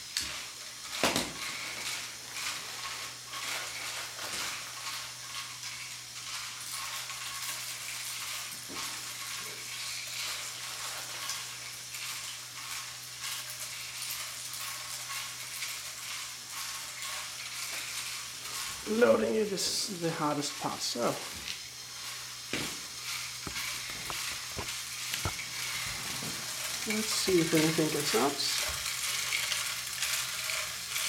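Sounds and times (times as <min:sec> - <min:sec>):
plastic parts rattling in drum: 0:00.2 - 0:31.0.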